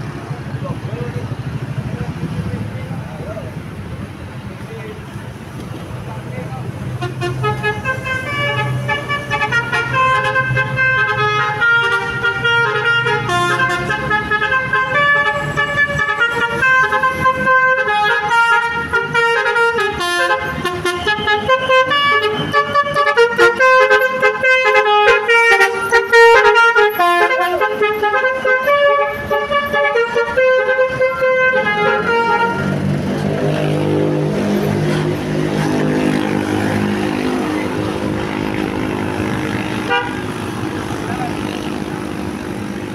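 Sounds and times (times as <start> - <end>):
bus engine running: 0.0 - 42.9
multi-tone musical bus horn: 6.9 - 42.9.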